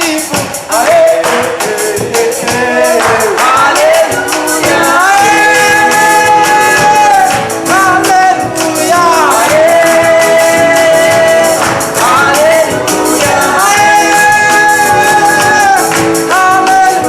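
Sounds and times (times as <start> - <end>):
high percussion beat: 0.0 - 17.0
voices singing gospel song: 0.0 - 17.0.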